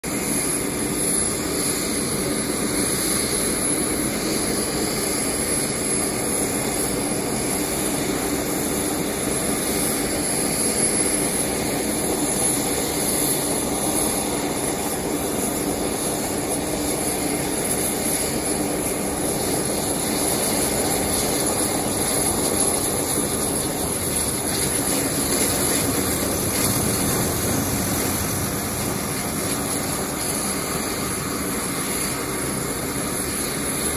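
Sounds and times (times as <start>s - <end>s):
turboprop engines running: 0.0s - 33.9s.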